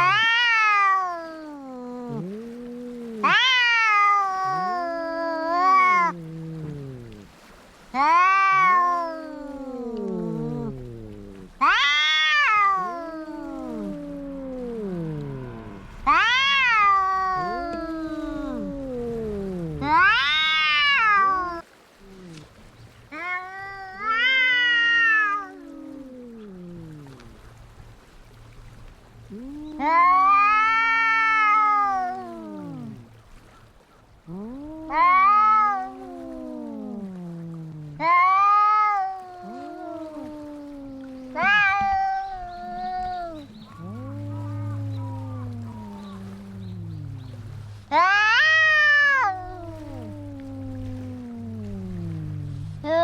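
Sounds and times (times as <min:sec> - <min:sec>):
cat high wailing yowls: 0:00.0 - 0:07.3, 0:07.9 - 0:21.6, 0:23.1 - 0:27.4, 0:29.3 - 0:33.1, 0:34.3 - 0:53.0
cat low moaning yowls: 0:00.0 - 0:53.0.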